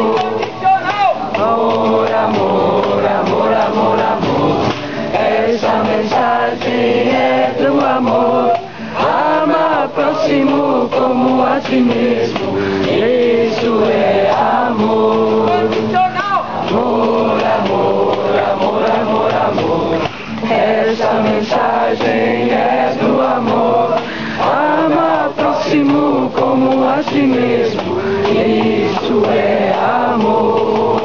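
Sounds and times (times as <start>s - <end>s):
group chanting in unison: 0.0s - 0.6s, 1.2s - 31.0s.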